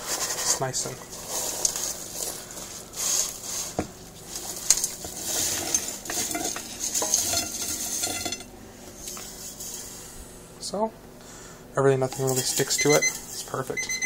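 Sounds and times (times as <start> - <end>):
fries scraping around a pan: 0.0 - 10.3, 12.0 - 13.7.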